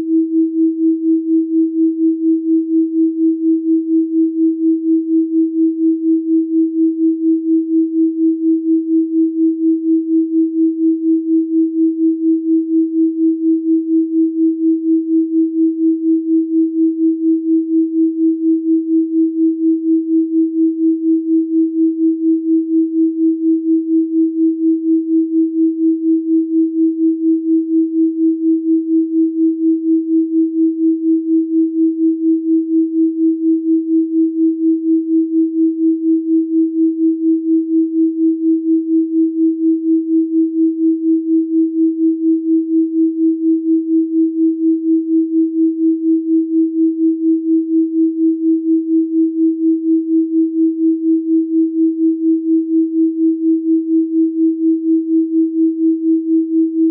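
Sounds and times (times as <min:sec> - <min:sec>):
pulsing electronic sine tone: 0:00.0 - 0:56.9.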